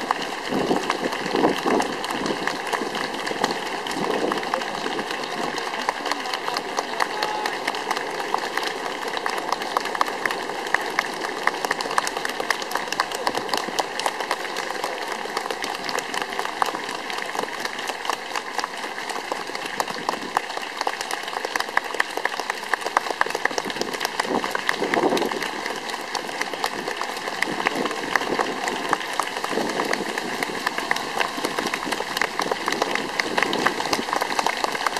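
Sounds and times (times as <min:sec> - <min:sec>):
crowd clapping: 0:00.0 - 0:34.9.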